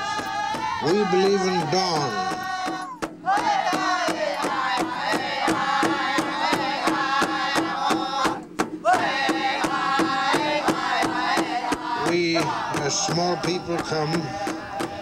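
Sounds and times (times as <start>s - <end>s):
group singing together: 0.0s - 15.0s
large drum beating: 0.0s - 15.0s.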